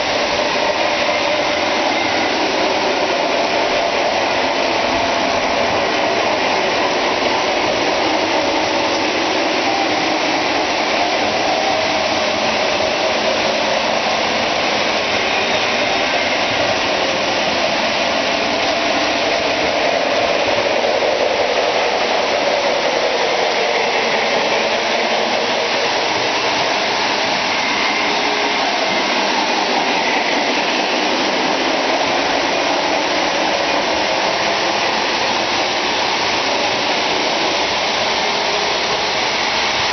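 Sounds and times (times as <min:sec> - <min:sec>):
model trains whirring on track: 0:00.0 - 0:39.9.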